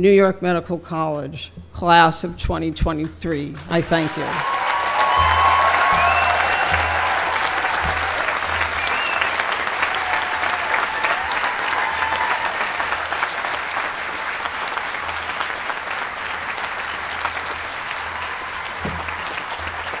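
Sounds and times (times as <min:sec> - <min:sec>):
crowd applauding: 0:03.6 - 0:20.0.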